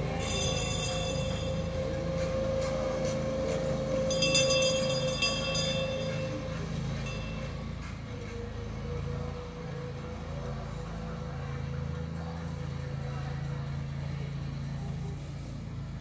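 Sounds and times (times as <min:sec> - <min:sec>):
music playing: 0:00.0 - 0:14.5
road train engine humming: 0:00.0 - 0:16.0.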